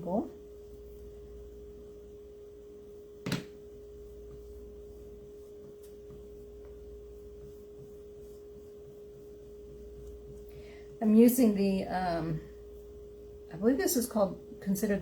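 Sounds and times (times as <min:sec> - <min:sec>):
steady single-pitched hum: 0:00.0 - 0:15.0.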